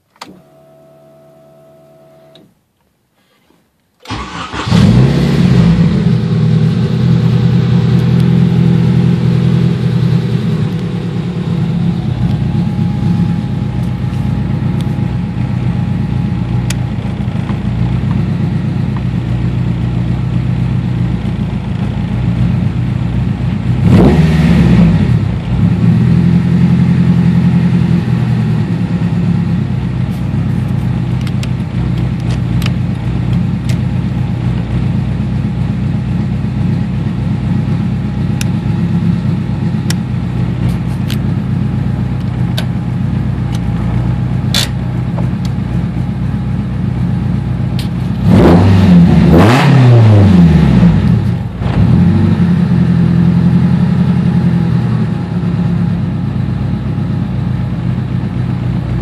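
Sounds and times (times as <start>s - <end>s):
car engine idling and revving: 4.1s - 59.0s.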